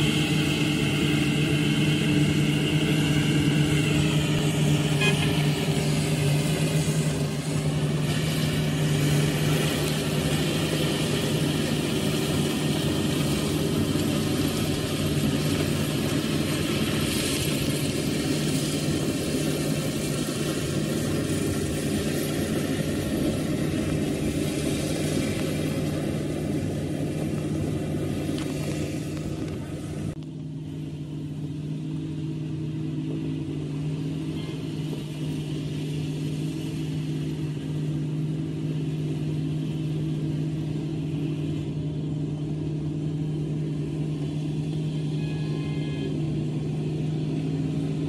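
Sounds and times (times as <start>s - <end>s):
diesel harvester drone with whine: 0.0s - 48.0s.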